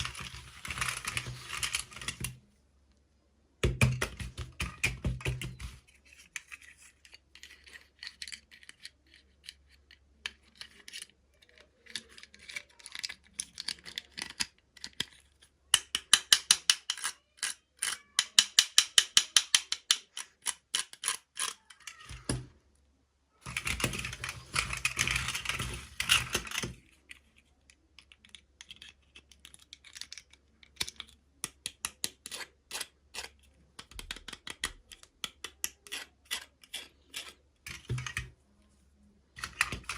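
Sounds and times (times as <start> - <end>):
plastic toy parts clicking: 0.0 - 2.4, 3.6 - 22.5, 23.4 - 38.3, 39.4 - 39.9.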